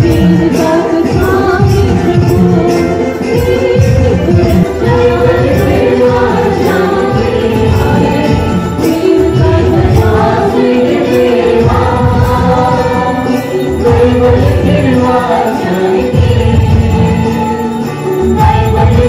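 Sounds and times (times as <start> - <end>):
choir singing a hymn: 0.0 - 19.0
jingling hand percussion: 0.0 - 19.0.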